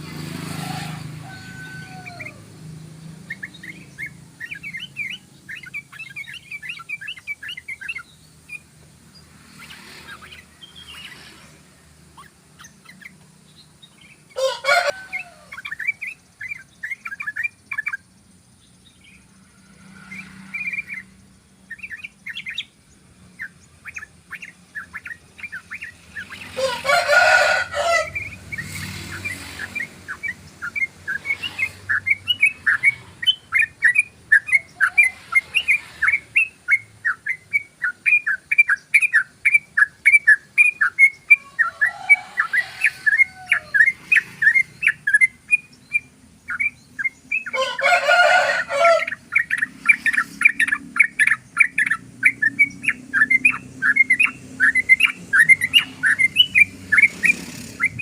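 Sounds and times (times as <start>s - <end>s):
bird singing rolling song: 0.0s - 58.0s.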